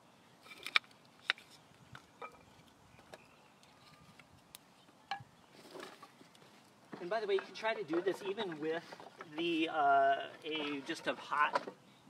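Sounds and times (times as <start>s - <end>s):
kindling sticks clacking: 0.4s - 11.8s.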